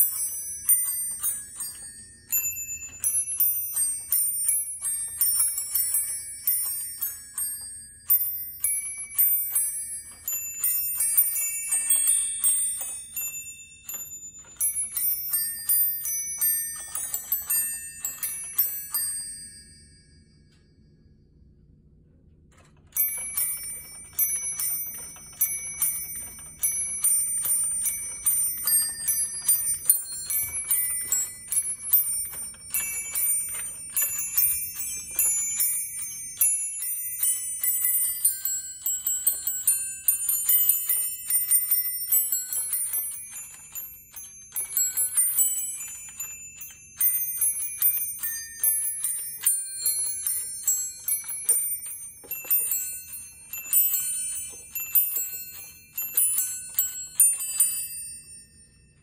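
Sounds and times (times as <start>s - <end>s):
small bells ringing a tune: 0.0s - 21.2s, 22.6s - 59.0s.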